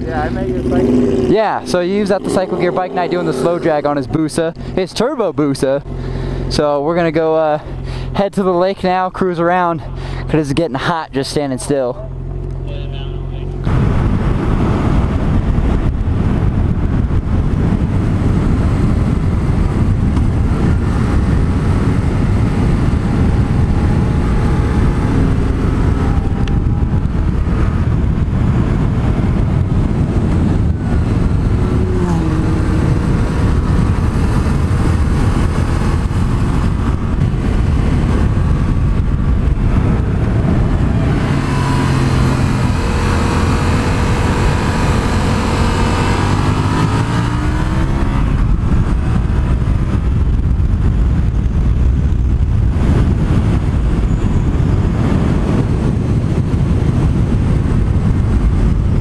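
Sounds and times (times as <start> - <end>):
motorcycle engine: 0.0 - 8.2, 11.2 - 59.0
wind rush over microphone: 0.0 - 59.0.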